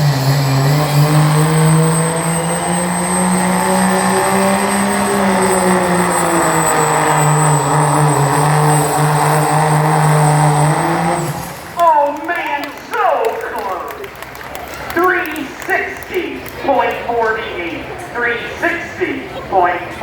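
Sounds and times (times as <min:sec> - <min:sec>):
truck engine at high revs: 0:00.0 - 0:17.9.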